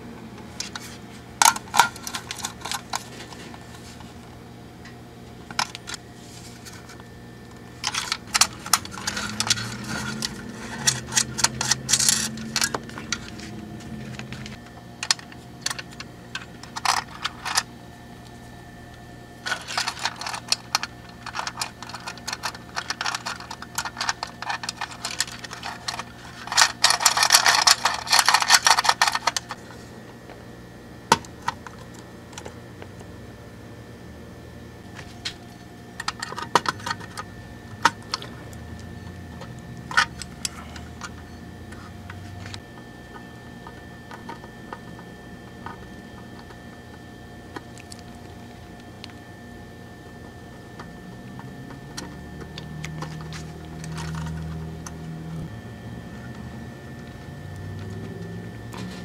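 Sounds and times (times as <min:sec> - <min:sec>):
wires clicking and rustling: 0:00.4 - 0:18.4, 0:19.4 - 0:29.8, 0:34.8 - 0:49.3, 0:50.2 - 0:55.5.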